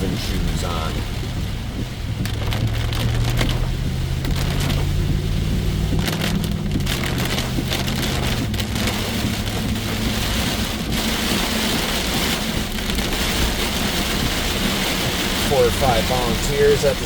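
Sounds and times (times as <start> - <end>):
engine hum: 0.0 - 17.0
rain on a car: 0.0 - 17.0
road noise: 0.0 - 17.0.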